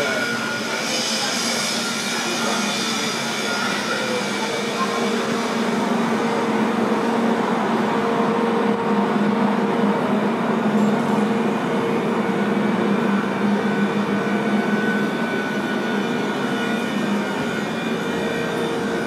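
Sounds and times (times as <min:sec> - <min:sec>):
mechanical drone: 0:00.0 - 0:19.0.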